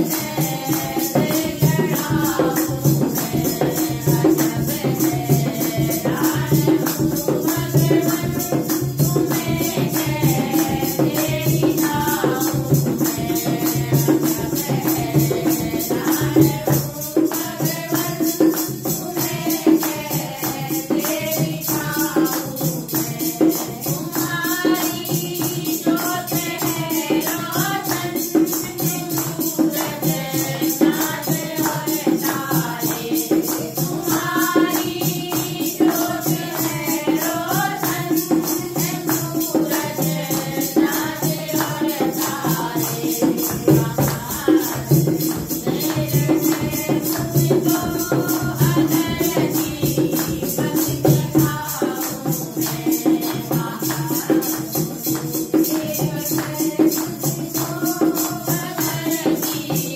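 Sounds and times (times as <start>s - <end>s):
hand drum beat: 0.0s - 59.9s
jingling hand percussion: 0.0s - 59.9s
women singing in unison: 0.0s - 59.9s.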